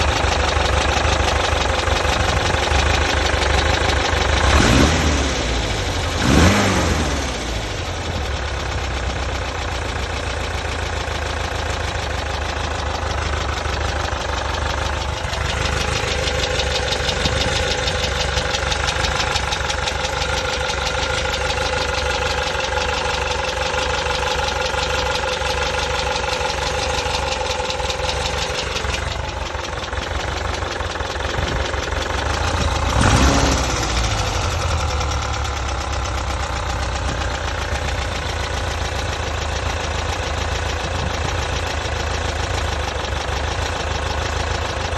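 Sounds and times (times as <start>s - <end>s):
engine revving and idling: 0.0s - 44.9s
fast rhythmic engine knock: 0.0s - 44.9s.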